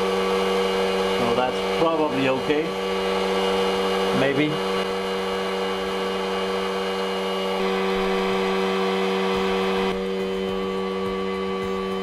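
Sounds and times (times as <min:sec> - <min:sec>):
heat gun blowing with motor hum: 0:00.0 - 0:12.0.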